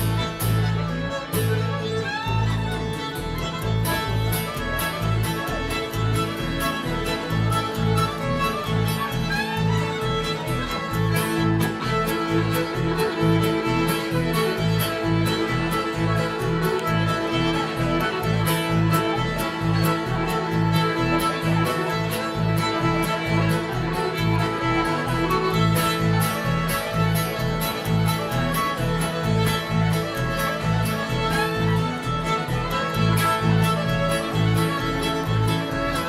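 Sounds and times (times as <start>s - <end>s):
acoustic guitar: 0.0s - 36.0s
mandolin: 0.0s - 36.0s
two fiddles playing melody: 0.0s - 36.0s
upright bass: 0.0s - 36.0s.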